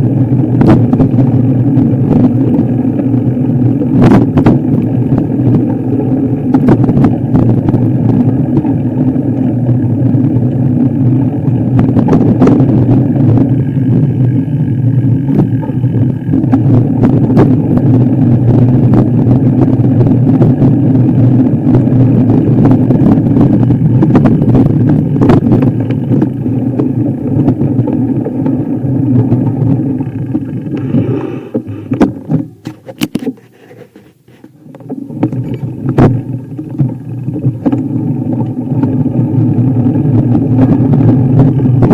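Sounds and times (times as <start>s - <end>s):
knocks and clatter over rough ground: 0.0s - 41.9s
vehicle engine under load: 0.0s - 41.9s.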